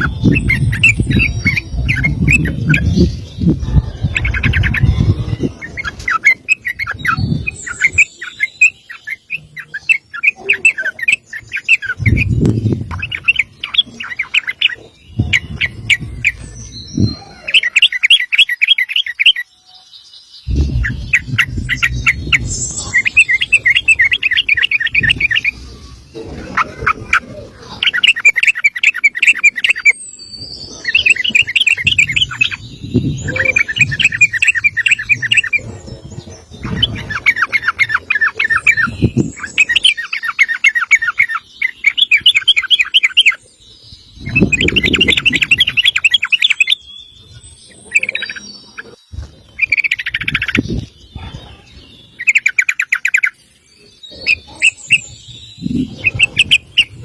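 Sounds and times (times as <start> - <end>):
bulbul singing fast trills: 0.0 - 57.0.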